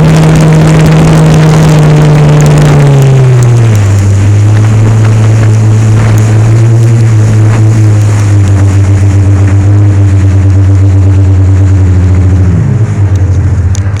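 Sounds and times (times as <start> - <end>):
personal watercraft engine revving: 0.0 - 14.0
rushing water: 0.0 - 14.0.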